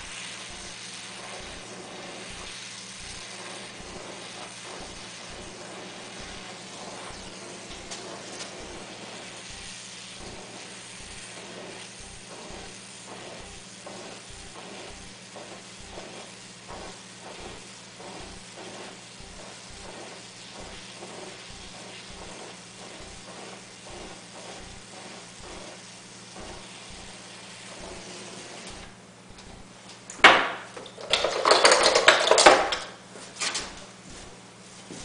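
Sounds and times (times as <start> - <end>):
torch flame hissing: 0.0 - 35.0.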